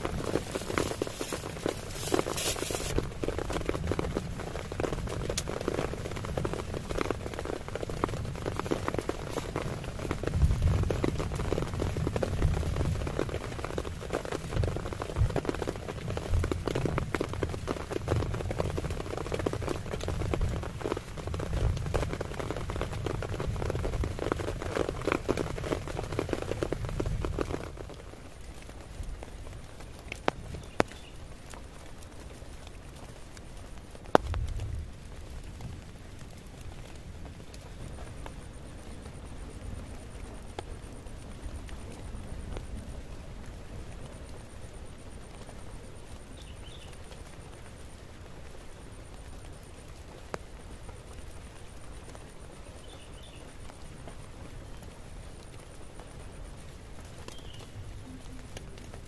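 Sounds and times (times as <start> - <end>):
heavy rain on tent fabric: 0.0 - 59.0.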